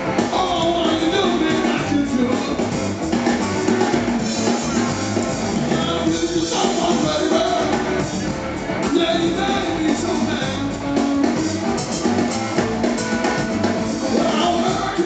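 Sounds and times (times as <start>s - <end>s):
drum kit: 0.0s - 15.0s
electric bass: 0.0s - 15.0s
electric guitar: 0.0s - 15.0s.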